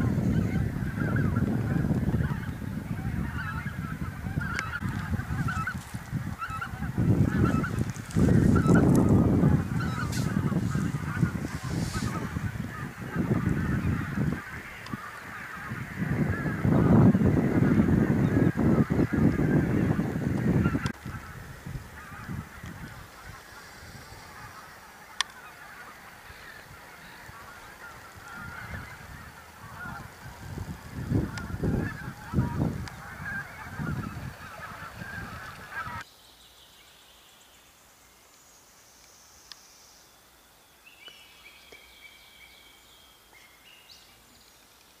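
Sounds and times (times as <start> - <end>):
geese honking and cackling: 0.0 - 36.1
songbird singing: 0.0 - 45.0.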